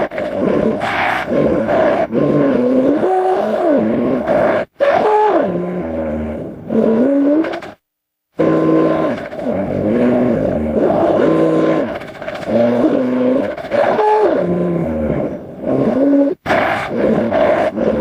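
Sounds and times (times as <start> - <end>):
creature roars and growls: 0.0 - 7.8, 8.4 - 18.0.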